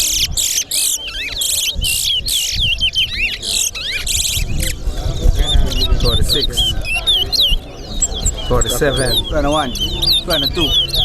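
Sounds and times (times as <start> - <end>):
finches singing whistled phrases: 0.0 - 11.0.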